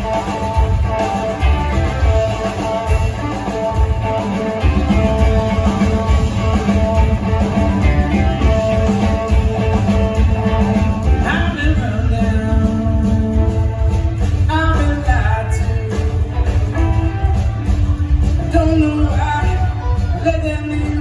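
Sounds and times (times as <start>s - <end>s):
bass guitar: 0.0s - 21.0s
drums: 0.0s - 21.0s
electric guitars: 0.0s - 21.0s.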